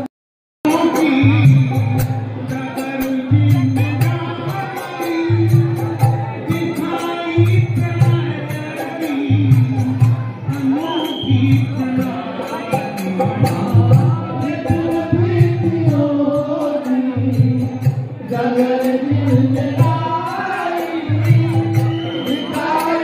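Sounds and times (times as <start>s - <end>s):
jingling percussion: 0.7s - 23.0s.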